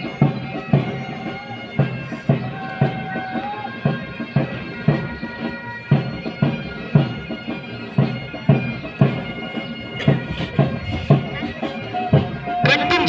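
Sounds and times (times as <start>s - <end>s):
bagpipes holding notes: 0.0s - 13.0s
marching drum beat: 0.1s - 13.0s.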